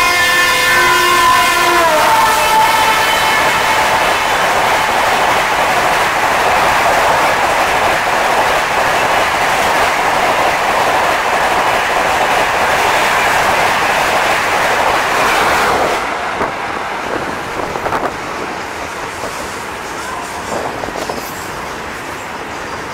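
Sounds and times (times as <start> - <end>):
train wheels rushing on rails: 0.0 - 22.9.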